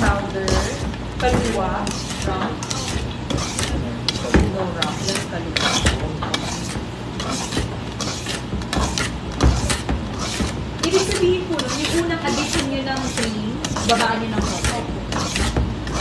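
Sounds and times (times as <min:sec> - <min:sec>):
whisk scraping metal bowl: 0:00.0 - 0:16.0.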